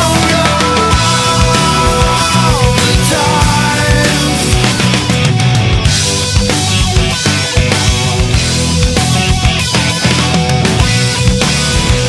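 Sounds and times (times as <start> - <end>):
heavy rock band playing: 0.0 - 12.0.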